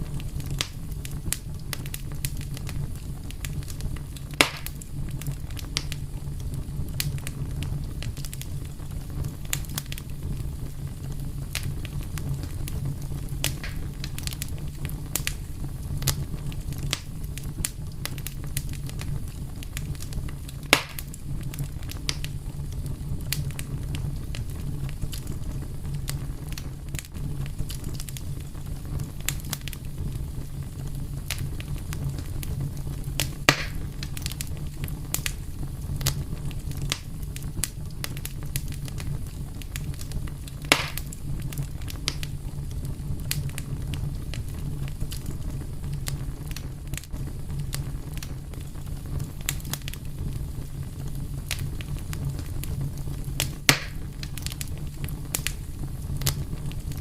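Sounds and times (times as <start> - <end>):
fire low rumble: 0.0 - 57.0
loud fire pops: 0.0 - 57.0
wood fire crackling: 0.0 - 57.0.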